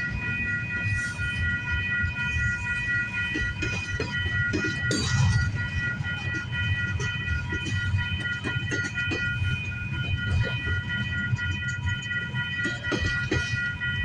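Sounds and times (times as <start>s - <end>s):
freight train cars rumbling: 0.0s - 14.0s
level crossing bell ringing: 0.0s - 14.0s.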